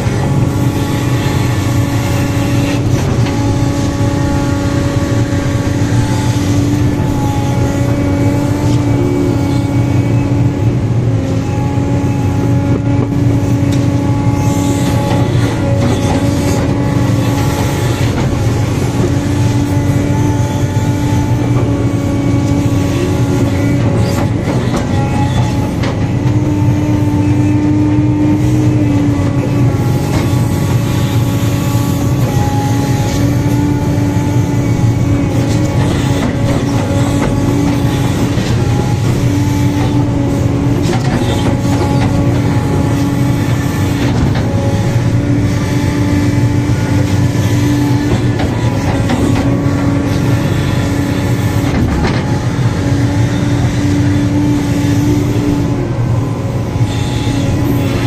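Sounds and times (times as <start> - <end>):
excavator diesel engine rumble: 0.0 - 58.0
hydraulic whine: 0.0 - 58.0.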